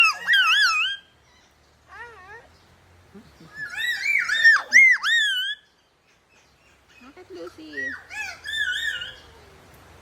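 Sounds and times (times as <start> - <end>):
bird calling: 0.0 - 9.6.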